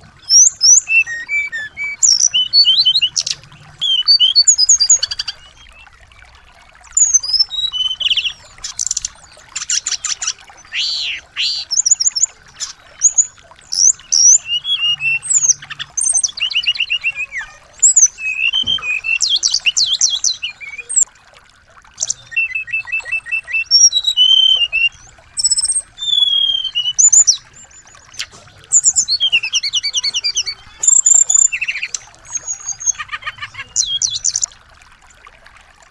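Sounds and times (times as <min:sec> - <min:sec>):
songbirds chirping and trilling: 0:00.0 - 0:35.2.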